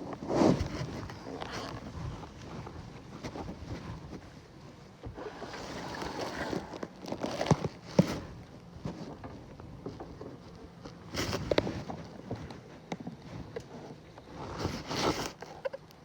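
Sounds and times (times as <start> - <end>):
cloth rubbing over microphone: 0.0 - 9.2, 11.0 - 15.4.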